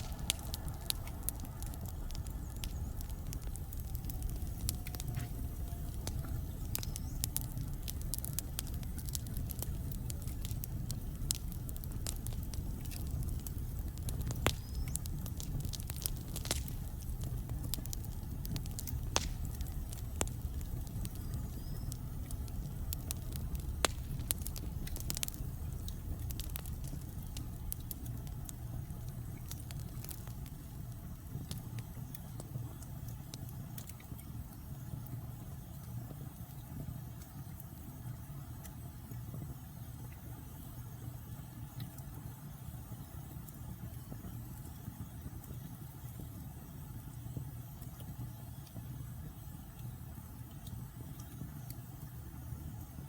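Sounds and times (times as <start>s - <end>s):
fire crackling and popping: 0.0s - 53.0s
fire rumbling: 0.0s - 53.0s.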